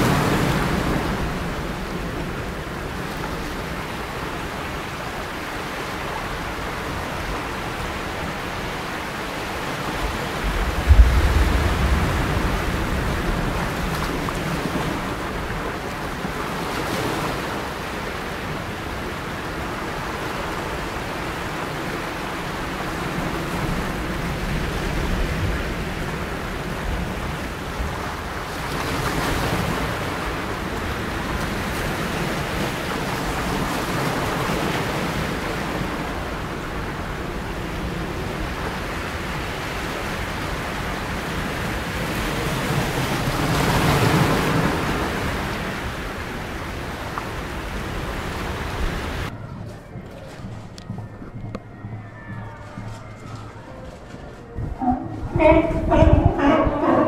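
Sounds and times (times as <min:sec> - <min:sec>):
ocean surf washing: 0:00.0 - 0:57.0.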